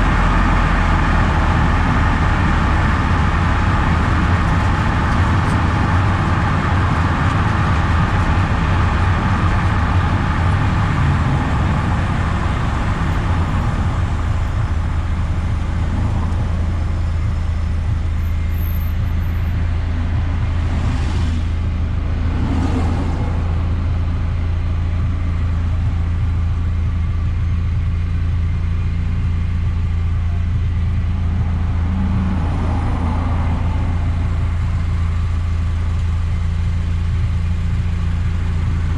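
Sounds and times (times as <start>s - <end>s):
car engine drone: 0.0s - 38.9s
road noise: 0.0s - 38.9s.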